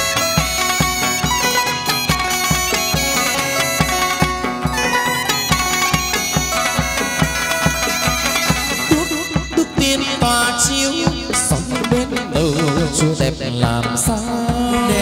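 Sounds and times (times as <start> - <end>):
steady percussion beat: 0.0 - 15.0
sustained melody lines: 0.0 - 15.0.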